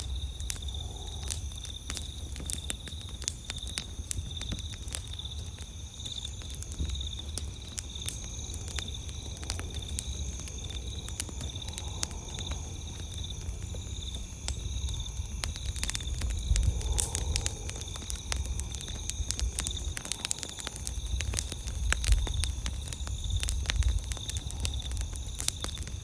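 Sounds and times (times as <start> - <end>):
campfire crackling and popping: 0.0 - 26.0
night insects trilling: 0.0 - 26.0.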